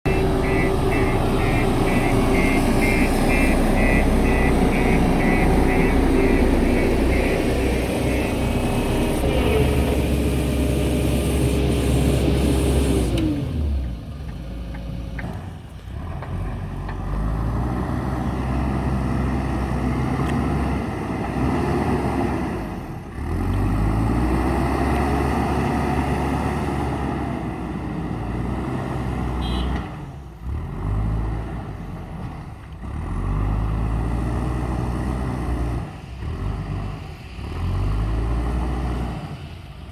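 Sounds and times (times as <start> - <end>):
diesel engine working under load: 0.0 - 39.9.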